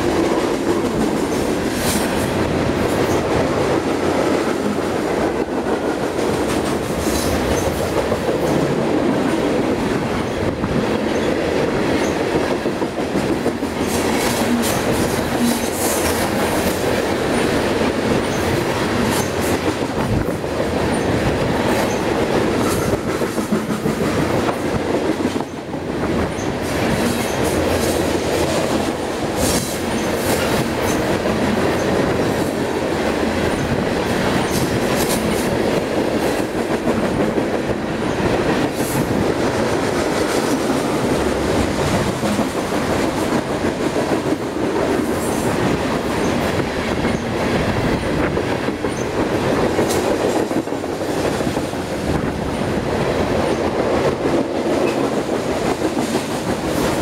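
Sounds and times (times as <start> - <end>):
freight train rumbling past: 0.0 - 57.0
wheels clickety-clack over joints: 0.0 - 57.0.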